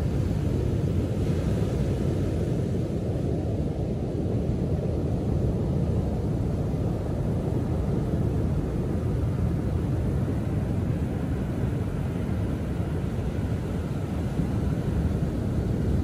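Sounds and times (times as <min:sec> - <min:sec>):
foamy wash hissing on sand: 0:00.0 - 0:16.0
waves breaking rumble: 0:00.0 - 0:16.0.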